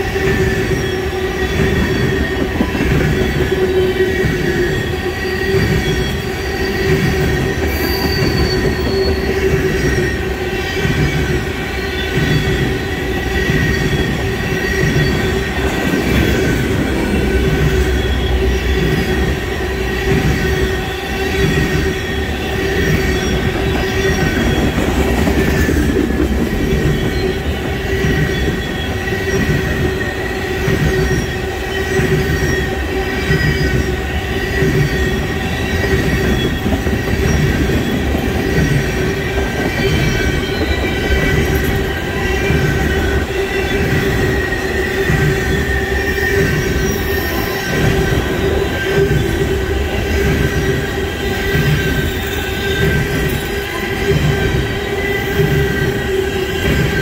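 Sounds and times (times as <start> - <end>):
freight train rumbling past: 0.0 - 57.0
high whine from wheels on rails: 0.0 - 57.0.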